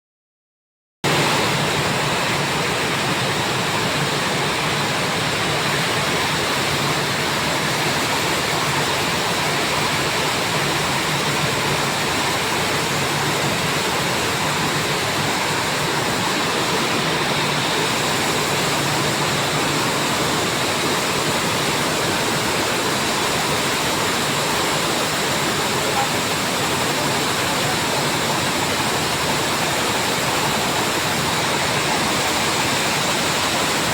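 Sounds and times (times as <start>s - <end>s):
washing machine spinning: 1.1s - 33.9s.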